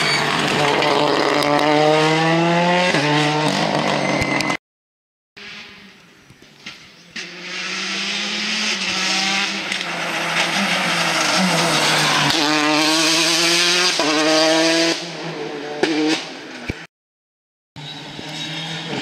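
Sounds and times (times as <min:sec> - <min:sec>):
rally car engine at full throttle: 0:00.0 - 0:04.6, 0:06.6 - 0:16.9, 0:17.8 - 0:19.0.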